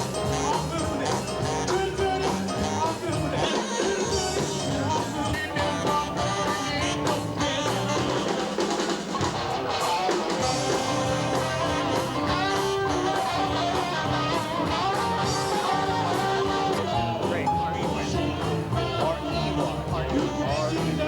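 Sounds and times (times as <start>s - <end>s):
drums: 0.0s - 21.0s
guitar: 0.0s - 21.0s
person singing: 0.0s - 21.0s
rock and roll band music: 0.0s - 21.0s.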